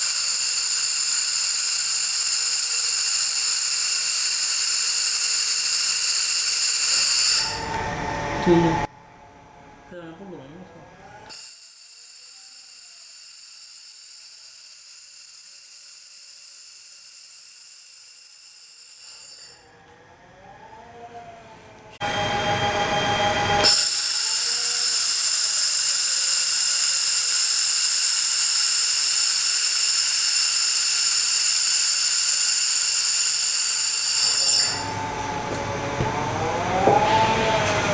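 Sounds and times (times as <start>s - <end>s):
laser welding machine whine: 0.0s - 19.8s, 22.0s - 37.9s.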